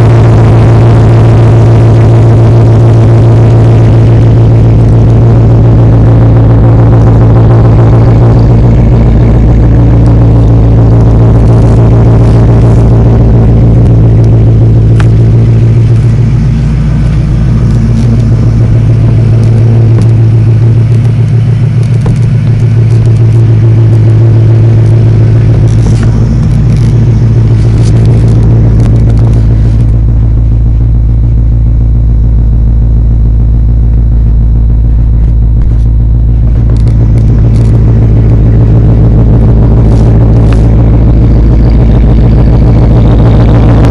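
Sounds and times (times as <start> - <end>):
car engine idling loudly: 0.0 - 43.9.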